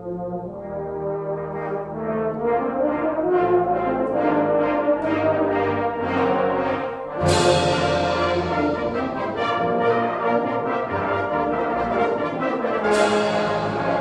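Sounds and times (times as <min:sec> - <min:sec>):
brass band playing: 0:00.0 - 0:14.0.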